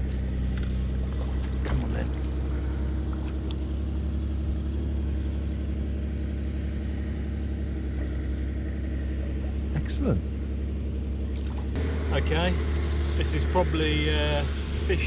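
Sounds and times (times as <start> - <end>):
distant diesel engine drone: 0.0 - 15.0.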